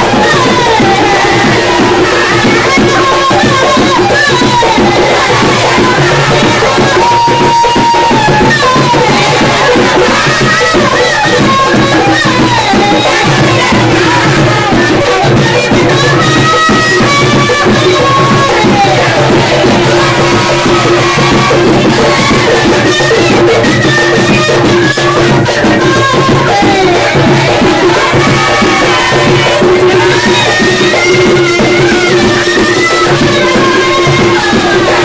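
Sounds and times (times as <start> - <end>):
woman singing into a microphone: 0.0 - 31.3
fast steady drumming: 0.0 - 35.0.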